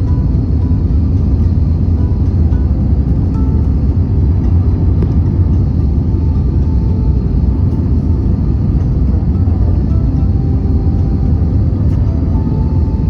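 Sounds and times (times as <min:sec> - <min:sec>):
airplane engines rumbling: 0:00.0 - 0:13.0.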